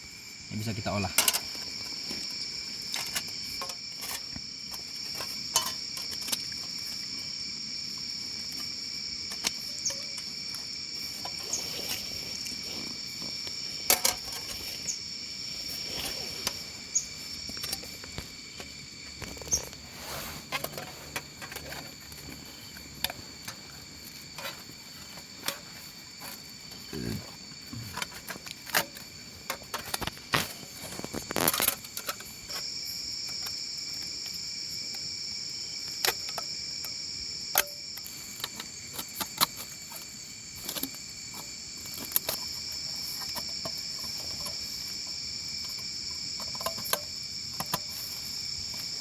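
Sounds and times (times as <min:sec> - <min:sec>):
insect chorus trilling: 0:00.0 - 0:49.0.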